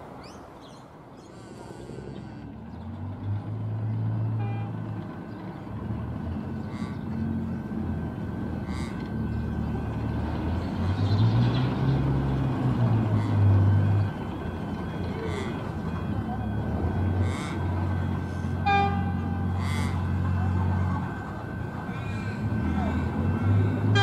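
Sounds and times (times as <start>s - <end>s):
electric train approaching: 2.3s - 24.0s.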